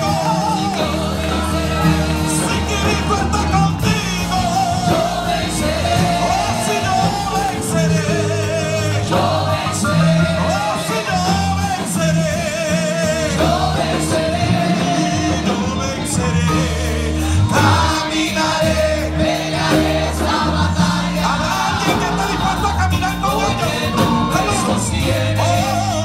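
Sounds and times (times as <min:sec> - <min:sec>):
group singing gospel: 0:00.0 - 0:26.0
live band with bass and drums: 0:00.0 - 0:26.0.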